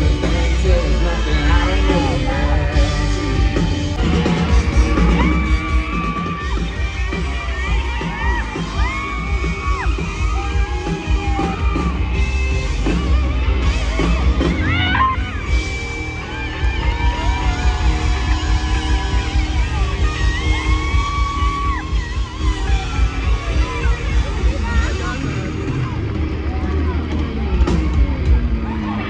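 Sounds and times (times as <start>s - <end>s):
guitar lines: 0.0s - 29.0s
live band playing loud: 0.0s - 29.0s
pulsing drums and bass: 0.0s - 29.0s.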